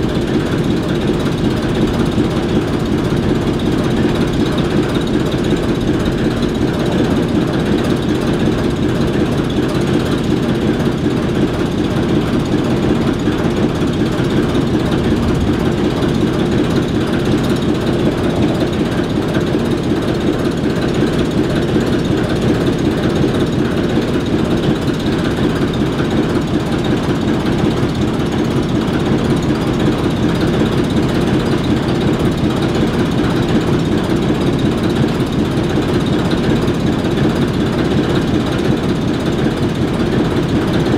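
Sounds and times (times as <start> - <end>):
diesel locomotive engines idling: 0.0 - 40.9.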